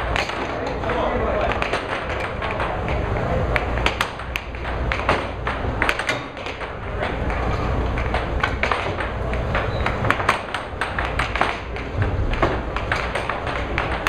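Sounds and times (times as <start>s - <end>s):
air hockey puck clacking: 0.0s - 14.0s.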